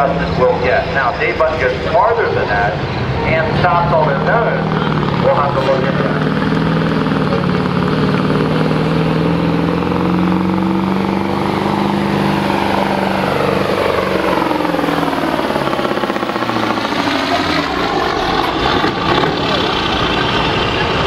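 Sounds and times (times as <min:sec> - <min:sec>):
truck diesel engine under load: 0:00.0 - 0:21.0.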